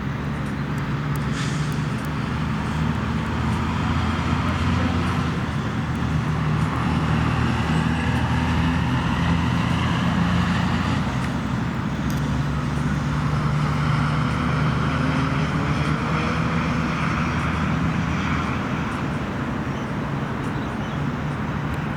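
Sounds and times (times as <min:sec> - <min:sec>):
vehicle engine and tyre noise: 0:00.0 - 0:21.9.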